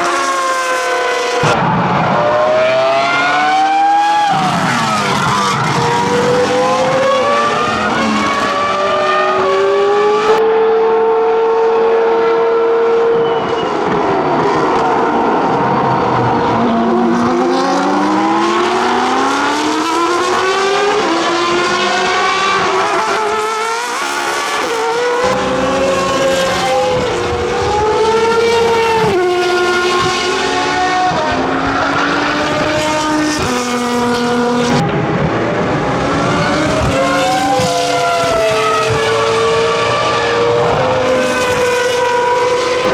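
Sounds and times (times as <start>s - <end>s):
racing car engine revving: 0.0s - 42.9s.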